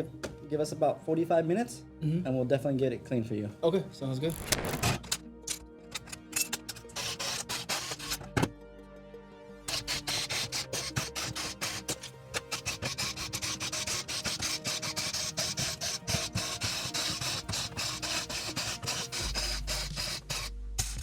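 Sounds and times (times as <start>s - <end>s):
background music with ticking beat: 0.0s - 21.0s.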